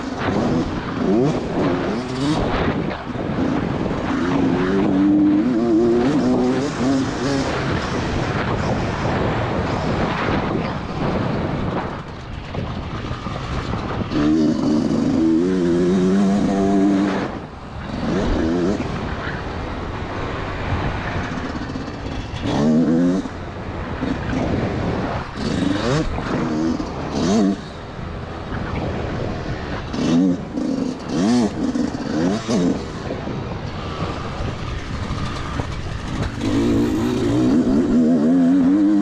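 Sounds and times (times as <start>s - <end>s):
two-stroke motorcycle engine revving: 0.0s - 39.0s.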